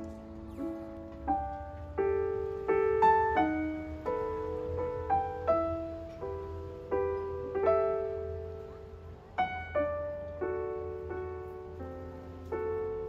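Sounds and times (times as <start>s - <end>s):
slow gentle solo piano: 0.0s - 13.0s.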